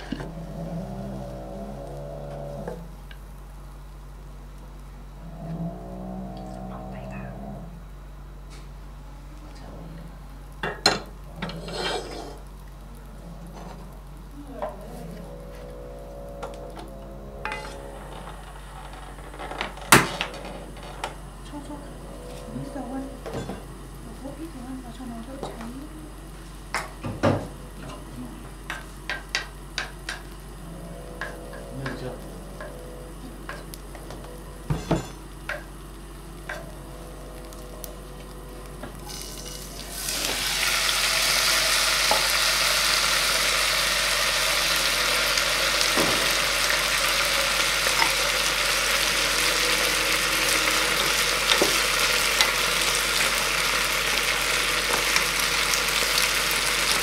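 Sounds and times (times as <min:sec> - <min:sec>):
potato frying sizzle: 0:00.0 - 0:06.4, 0:07.8 - 0:57.0.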